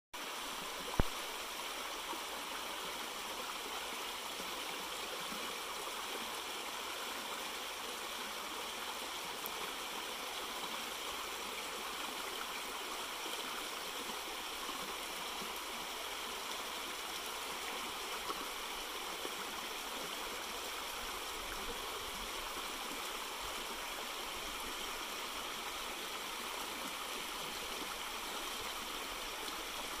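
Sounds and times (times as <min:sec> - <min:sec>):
brook babbling over stones: 0:00.2 - 0:30.0.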